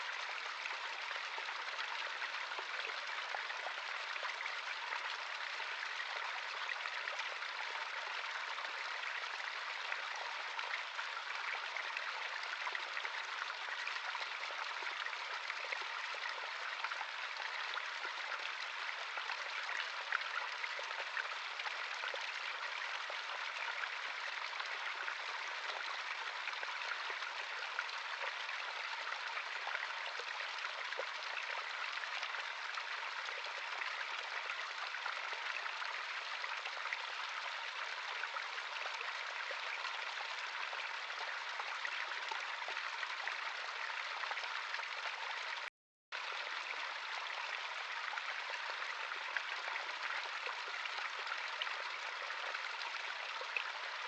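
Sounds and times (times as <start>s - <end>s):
stream rushing and burbling: 0.0s - 45.6s.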